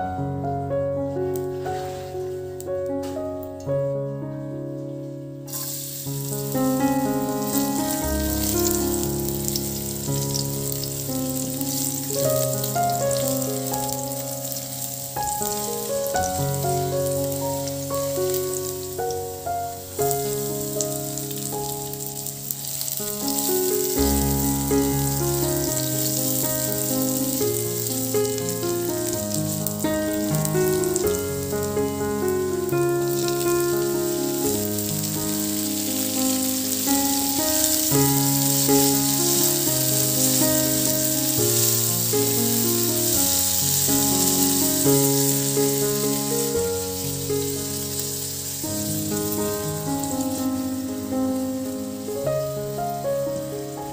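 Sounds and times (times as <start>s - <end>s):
garlic and onion sizzling in oil: 1.3s - 3.2s, 5.5s - 53.9s
background music: 5.4s - 53.0s.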